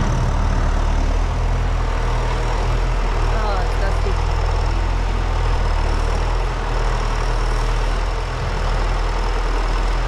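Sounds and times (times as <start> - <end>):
heavy loader engine running: 0.0 - 10.0.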